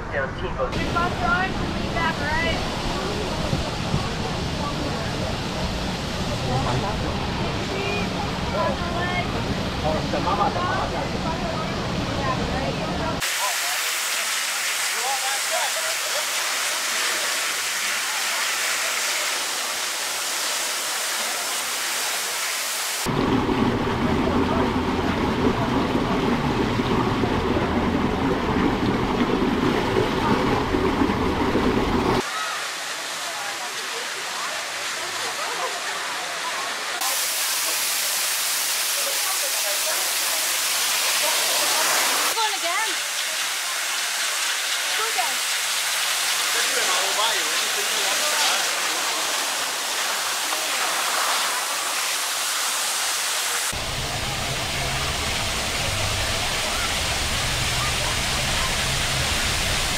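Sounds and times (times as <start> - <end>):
water rushing down slide: 0.7 - 59.9.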